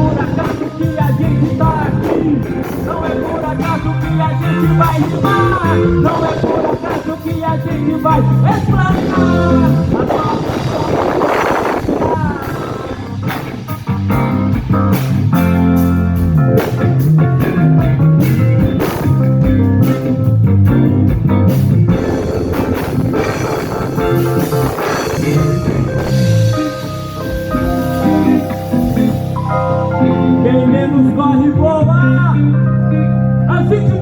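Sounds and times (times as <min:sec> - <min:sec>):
drum kit: 0:00.0 - 0:32.0
bass guitar: 0:00.0 - 0:34.0
guitar: 0:00.0 - 0:34.0.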